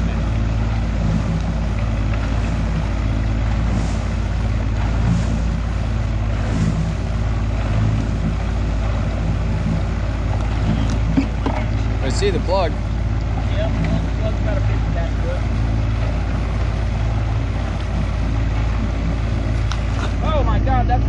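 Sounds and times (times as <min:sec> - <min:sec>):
outboard motor running: 0:00.0 - 0:21.0
water washing along hull: 0:00.0 - 0:21.0.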